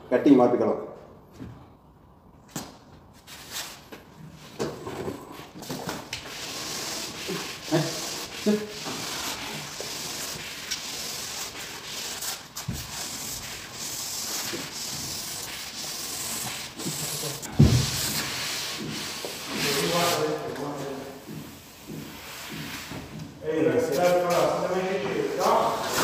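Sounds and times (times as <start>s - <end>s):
wallpaper rubbing and scraping: 3.2s - 26.0s.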